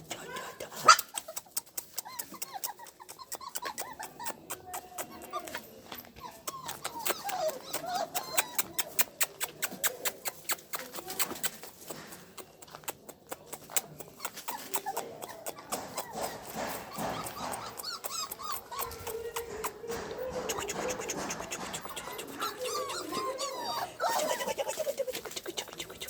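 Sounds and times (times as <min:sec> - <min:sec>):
quick ticking sounds: 0:00.0 - 0:05.5, 0:06.4 - 0:23.0, 0:24.3 - 0:26.0
puppies whimpering and squeaking: 0:00.9 - 0:11.8, 0:13.8 - 0:26.0.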